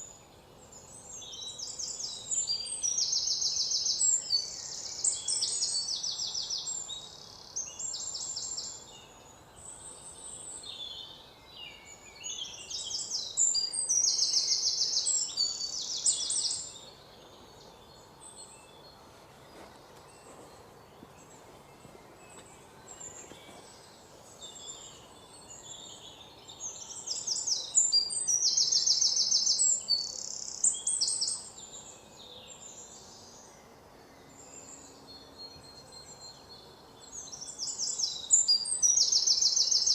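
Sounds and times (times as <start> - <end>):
birds chirping and singing: 0.0 - 39.9
faint background hiss: 0.0 - 39.9.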